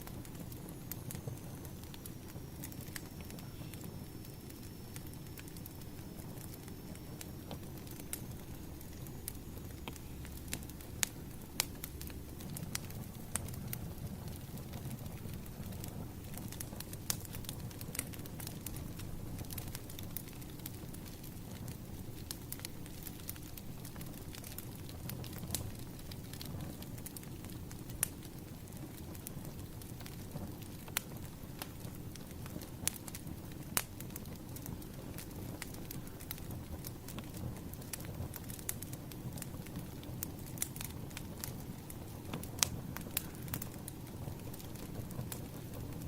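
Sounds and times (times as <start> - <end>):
low steady rumble: 0.0 - 46.0
low steady rush: 0.0 - 46.0
wood fire crackling: 0.0 - 46.0.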